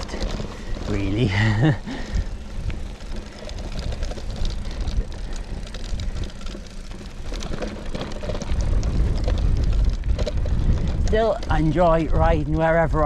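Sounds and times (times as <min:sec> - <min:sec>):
bike tyres on gravel: 0:00.0 - 0:13.0
stones and bike rattling: 0:00.0 - 0:13.0
wind rumble on microphone: 0:00.0 - 0:13.0.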